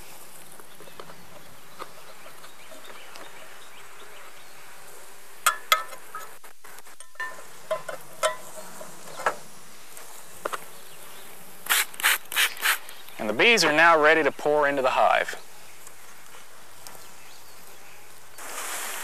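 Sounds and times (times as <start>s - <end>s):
honey bees humming: 0.0s - 6.4s, 7.0s - 19.0s.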